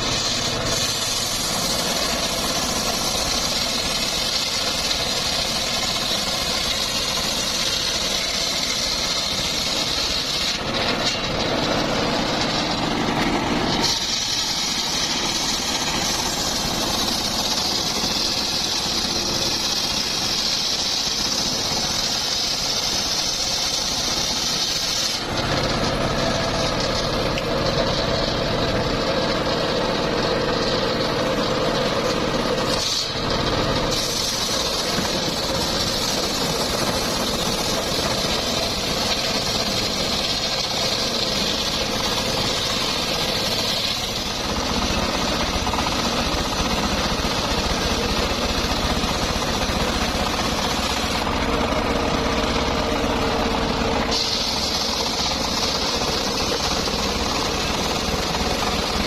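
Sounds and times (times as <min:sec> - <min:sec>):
circular saw cutting wood: 0:00.0 - 0:59.0.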